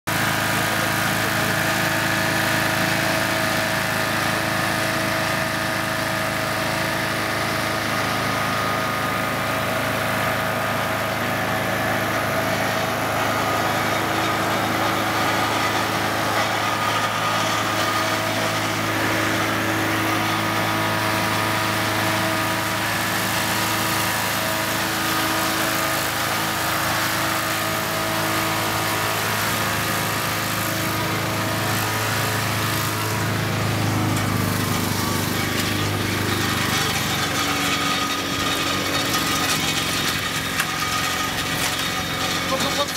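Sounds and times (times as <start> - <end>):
engine-driven heater running: 0.1 - 42.9.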